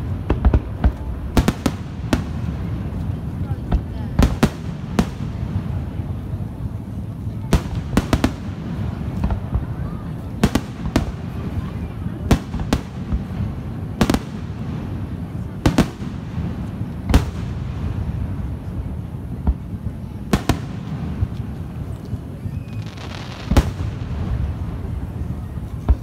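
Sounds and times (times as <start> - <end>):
fireworks bangs: 0.0 - 26.0
fireworks crackle: 0.0 - 26.0.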